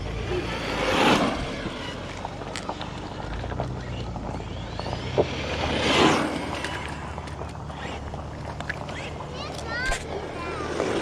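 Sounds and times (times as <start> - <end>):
electric motor whining: 0.0 - 11.0
tyre and ground noise: 0.0 - 11.0.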